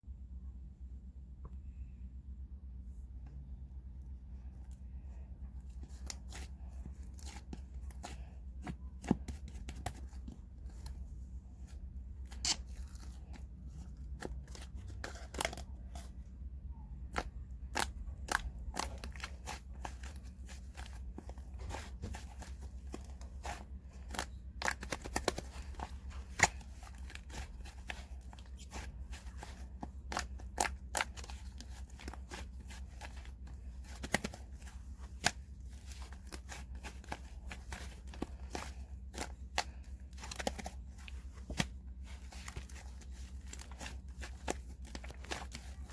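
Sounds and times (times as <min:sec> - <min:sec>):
faint low hum: 0:00.0 - 0:45.9.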